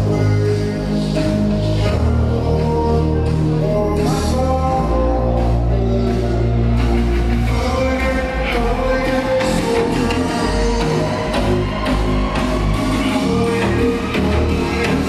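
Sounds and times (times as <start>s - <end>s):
dance music with heavy bass: 0.0s - 15.0s.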